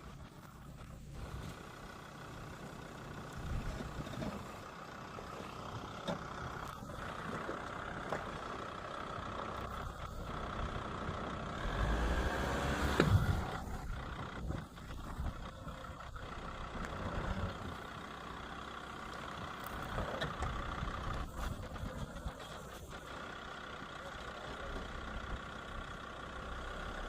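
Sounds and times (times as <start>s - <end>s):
diesel engine driving: 0.0s - 27.0s.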